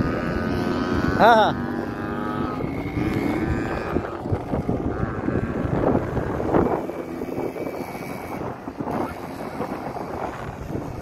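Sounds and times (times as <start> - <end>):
quad bike engines revving: 0.0 - 11.0
wind buffeting microphone: 0.0 - 11.0.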